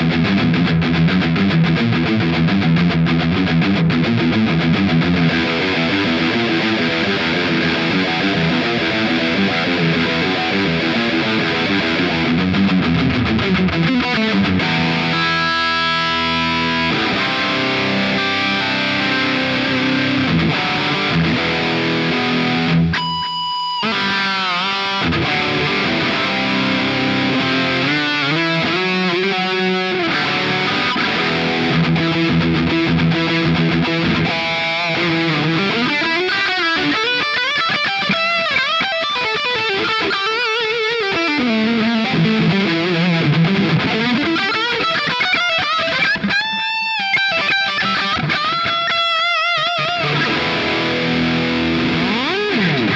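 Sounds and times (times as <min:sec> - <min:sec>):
electric guitar lead with vibrato: 0:00.0 - 0:52.9.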